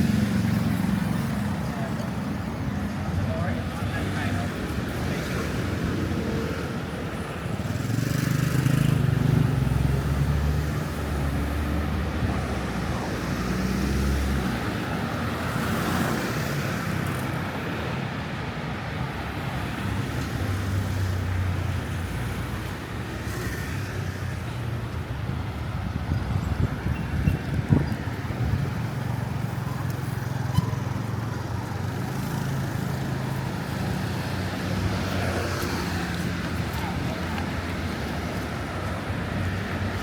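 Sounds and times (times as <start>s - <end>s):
road traffic hum: 0.0s - 40.0s.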